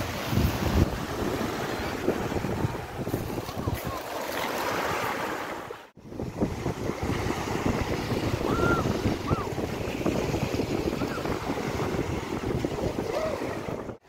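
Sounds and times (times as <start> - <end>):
wind buffeting microphone: 0.0 - 4.1, 6.0 - 14.0
sea surf rushing: 0.0 - 14.0.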